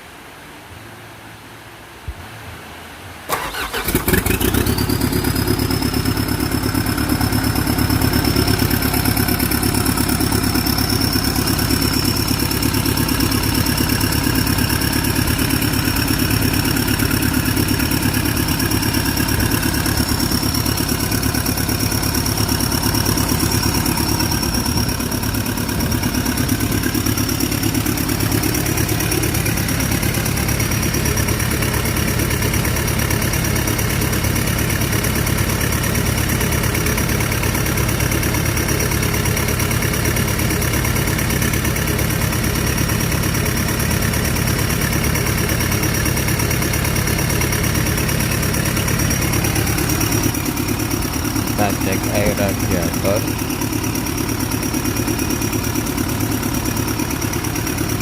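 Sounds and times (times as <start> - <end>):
high engine whine: 3.3 - 43.9, 44.6 - 58.0
diesel engine starting and idling: 3.3 - 58.0.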